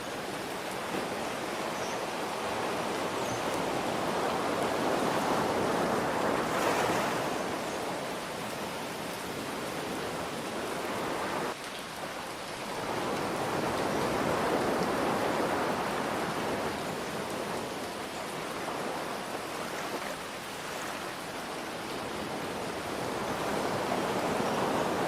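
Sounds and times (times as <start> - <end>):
ocean surf waves: 0.0 - 25.0
rain hiss: 0.0 - 25.0.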